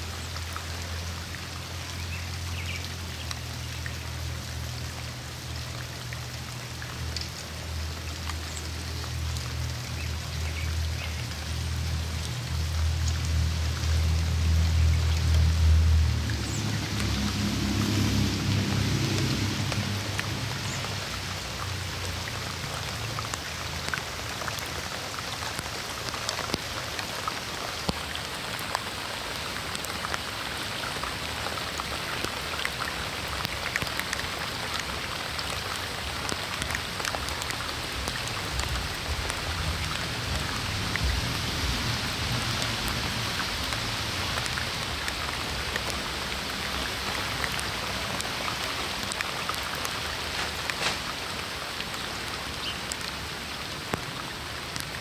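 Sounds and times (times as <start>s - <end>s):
raindrops ticking on leaves: 0.0s - 55.0s
steady rain: 0.0s - 55.0s.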